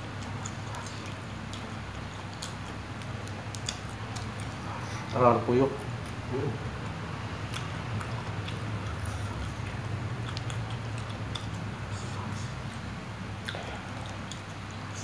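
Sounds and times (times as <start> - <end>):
person chewing food: 0.0 - 5.2, 5.8 - 15.0.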